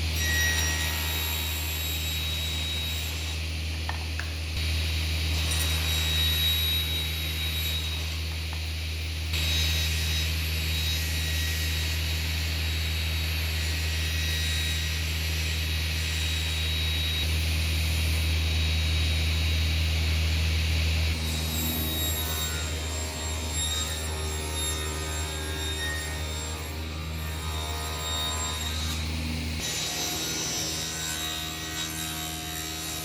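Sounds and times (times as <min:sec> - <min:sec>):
woodshop machinery running: 0:00.0 - 0:33.0.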